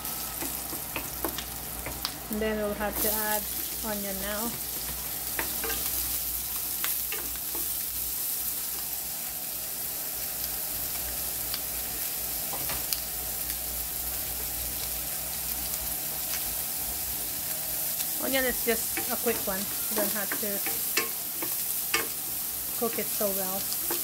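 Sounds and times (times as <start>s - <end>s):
meat and onion sizzling in oil: 0.0s - 24.0s.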